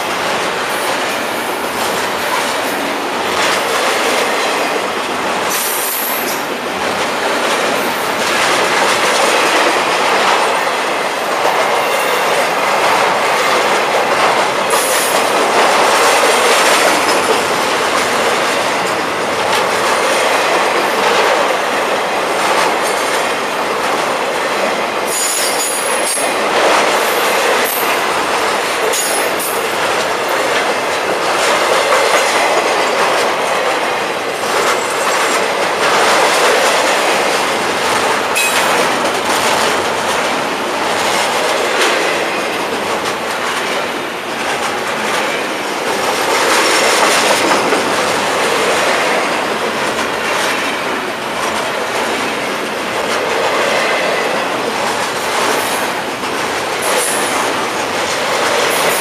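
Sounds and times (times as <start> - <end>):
freight train wheels rumbling: 0.0 - 59.0
wheels clicking over rail joints: 0.0 - 59.0.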